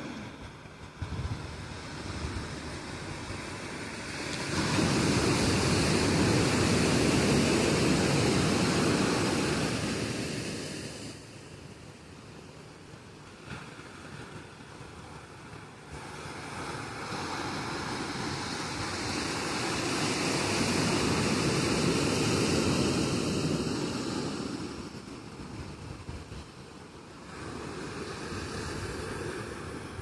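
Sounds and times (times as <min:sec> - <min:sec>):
ocean surf washing ashore: 0:00.0 - 0:30.0.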